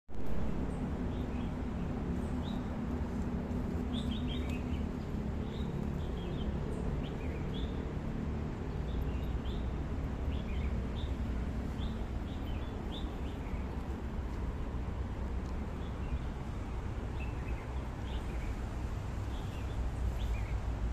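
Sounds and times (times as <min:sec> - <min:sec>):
steady low rumble: 0:00.1 - 0:20.9
small birds chirping: 0:00.3 - 0:20.9.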